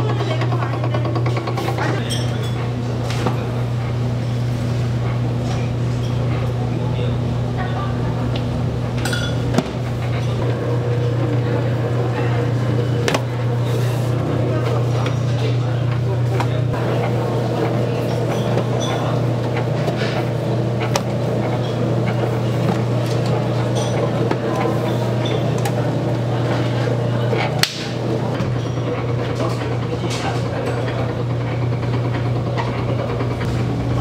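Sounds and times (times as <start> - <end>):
kitchen equipment humming: 0.0 - 34.0.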